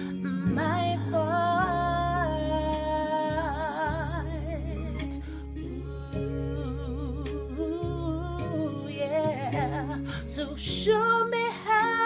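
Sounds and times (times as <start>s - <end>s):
steady bass accompaniment: 0.0s - 11.4s.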